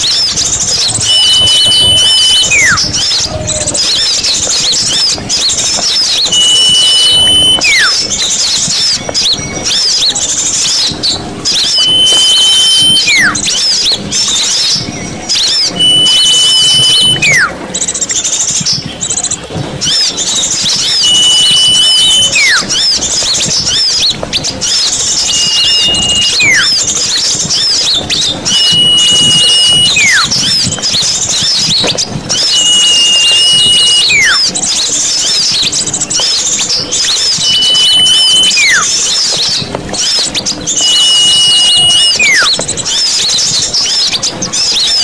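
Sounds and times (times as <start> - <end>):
small birds chirping: 0.0 - 45.0
whistle sliding downward: 0.0 - 45.0.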